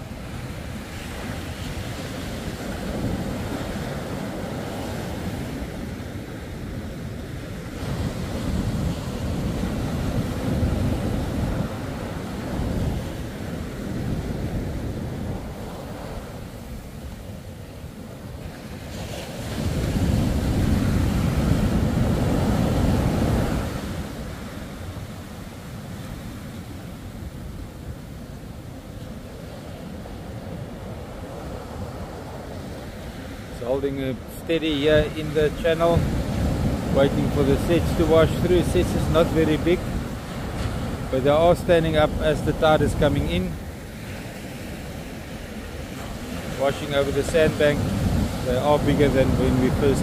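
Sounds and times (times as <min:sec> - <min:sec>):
ocean surf breaking: 0:00.0 - 0:50.0
wind buffeting microphone: 0:00.0 - 0:50.0.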